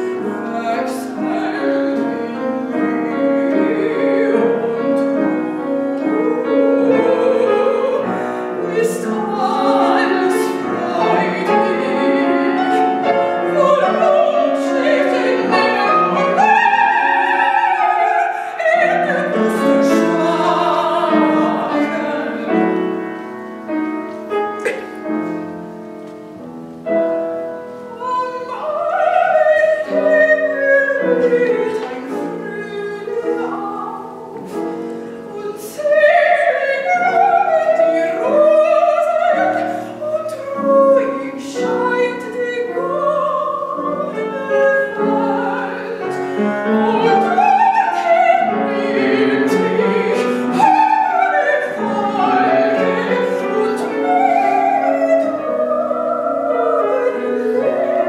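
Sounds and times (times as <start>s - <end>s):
woman singing operatically: 0.0s - 23.0s, 27.9s - 58.0s
grand piano: 0.0s - 58.0s.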